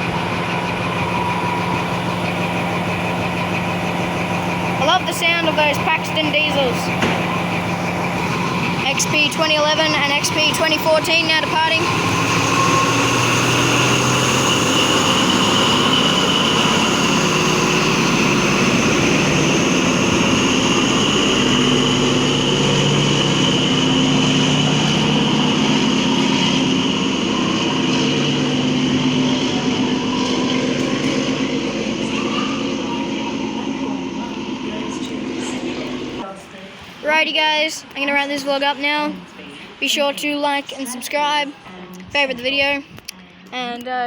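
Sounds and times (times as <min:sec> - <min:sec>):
high whine: 0:00.0 - 0:36.3
diesel train engine drone: 0:00.0 - 0:43.6.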